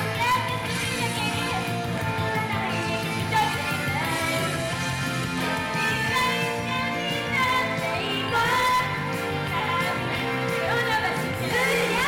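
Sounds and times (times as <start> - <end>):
female vocals singing pop: 0.0 - 12.0
pop backing track: 0.0 - 12.0.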